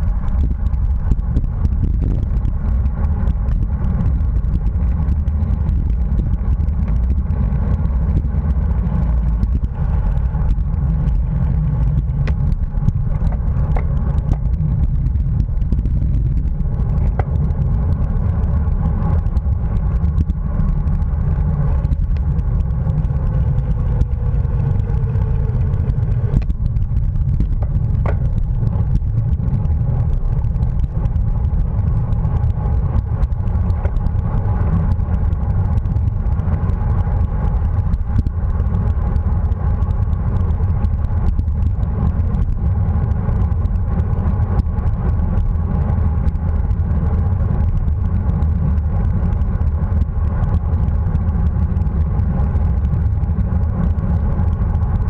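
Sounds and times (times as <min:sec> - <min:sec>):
faint steady hum: 0:00.0 - 0:55.0
wind rumbling over microphone: 0:00.0 - 0:55.0.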